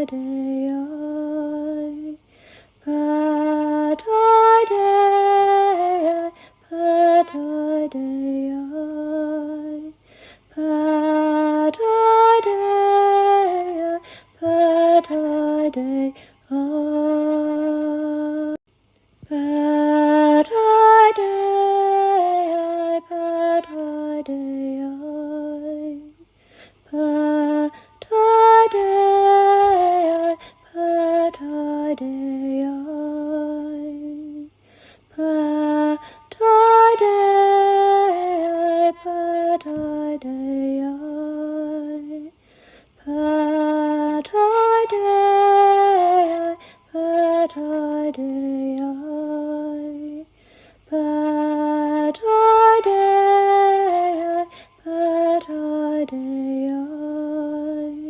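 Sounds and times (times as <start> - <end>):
woman singing a slow chant: 0.0 - 58.0.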